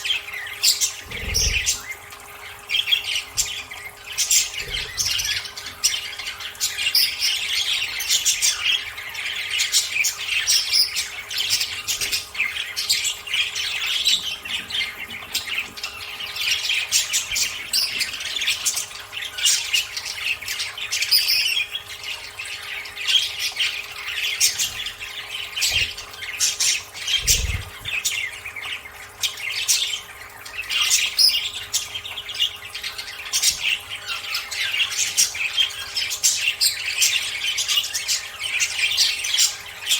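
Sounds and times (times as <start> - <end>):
budgerigars chattering and squawking: 0.0 - 39.9
faint steady hum: 0.0 - 39.9.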